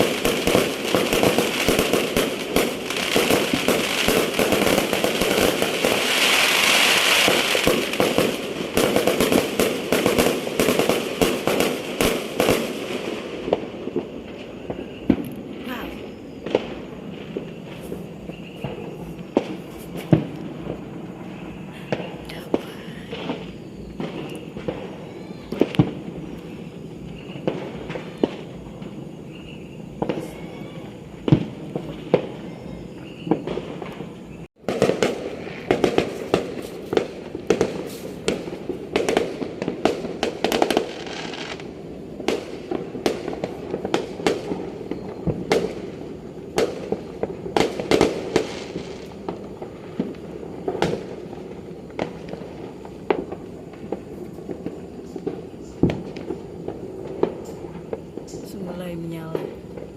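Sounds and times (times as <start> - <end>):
fireworks bangs and pops: 0.0 - 59.9.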